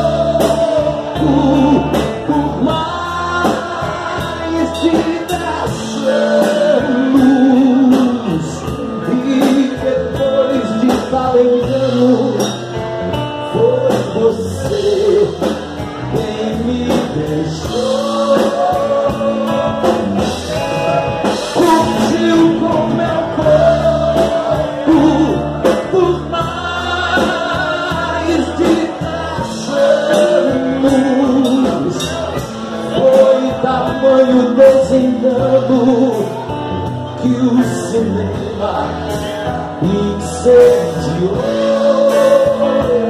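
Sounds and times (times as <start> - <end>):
drum kit beat: 0.0 - 43.0
live rock band playing: 0.0 - 43.0
man singing into microphone: 0.0 - 43.0.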